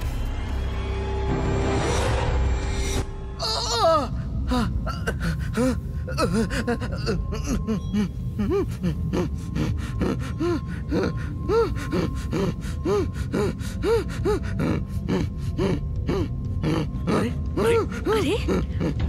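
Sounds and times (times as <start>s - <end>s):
man gasping and groaning: 3.6s - 19.0s.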